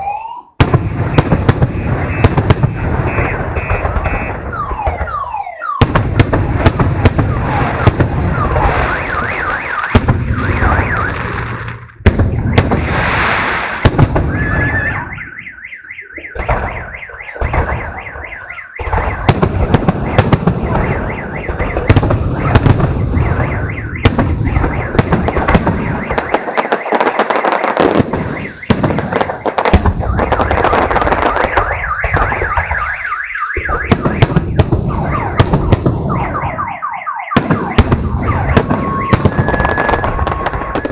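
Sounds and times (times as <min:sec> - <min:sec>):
fireworks bursting with loud bangs: 0:00.6 - 0:40.9
fireworks crackling: 0:05.8 - 0:36.2, 0:37.4 - 0:40.9.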